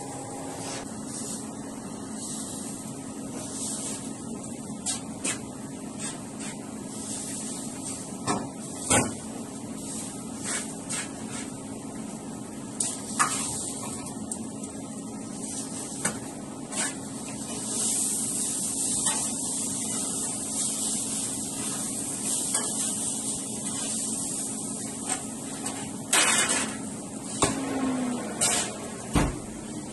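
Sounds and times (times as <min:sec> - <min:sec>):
extraction hood hum and hiss: 0:00.0 - 0:29.9.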